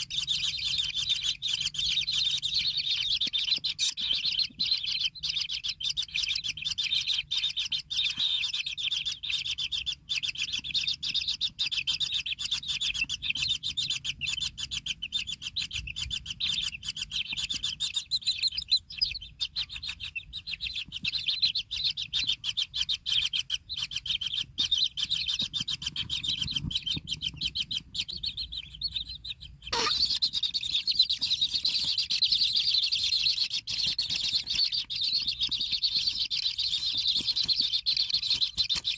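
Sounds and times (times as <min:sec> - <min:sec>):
nestlings chirping: 0:00.0 - 0:38.9.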